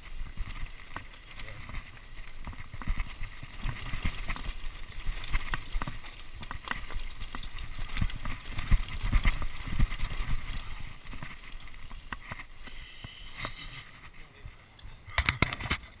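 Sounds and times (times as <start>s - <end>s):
bike frame and chain rattling: 0.0s - 14.2s
tyres crunching over loose stones: 0.0s - 16.0s.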